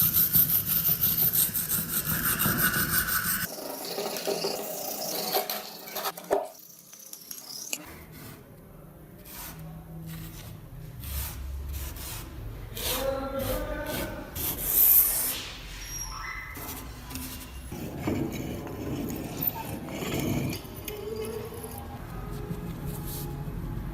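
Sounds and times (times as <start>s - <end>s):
abrasive scraping on rusty metal: 0.0s - 8.4s, 9.2s - 22.0s.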